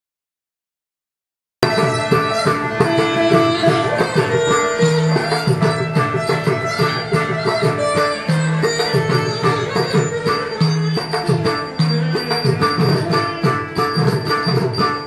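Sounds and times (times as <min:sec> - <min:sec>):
drum strokes: 0:01.6 - 0:15.0
held melodic notes: 0:01.6 - 0:15.0.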